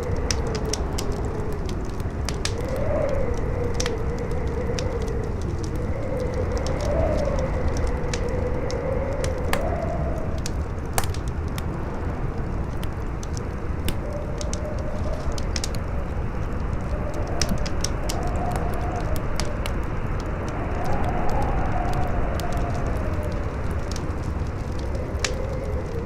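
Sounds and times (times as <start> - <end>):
campfire crackling and popping: 0.0 - 26.0
wind howling: 0.0 - 26.0.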